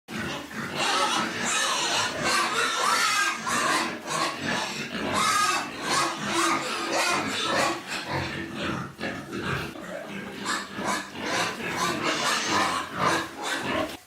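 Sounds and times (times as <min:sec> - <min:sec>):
piglets squealing: 0:00.1 - 0:14.0.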